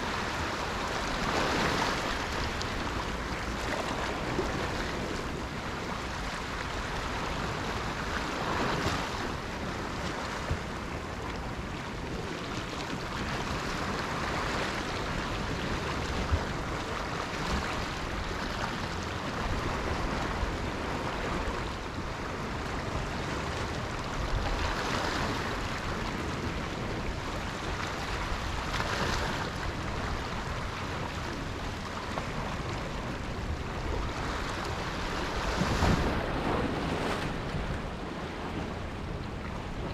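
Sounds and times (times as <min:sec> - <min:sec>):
ocean waves washing on shore: 0:00.0 - 0:39.9
wind rumbling on microphone: 0:00.0 - 0:39.9.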